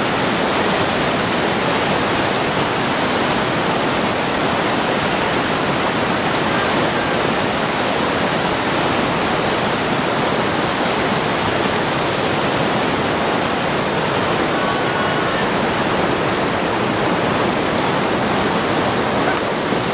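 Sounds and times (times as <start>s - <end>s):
river rapids rushing: 0.0s - 19.9s.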